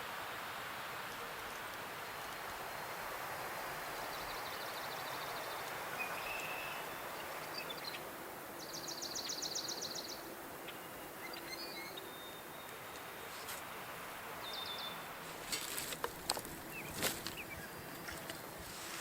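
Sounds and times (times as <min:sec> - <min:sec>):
songbirds singing: 0:00.9 - 0:19.0.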